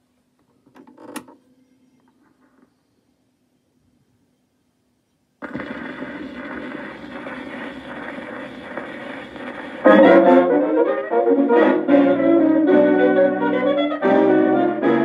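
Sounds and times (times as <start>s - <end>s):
record surface hiss and crackle: 0.0s - 13.8s.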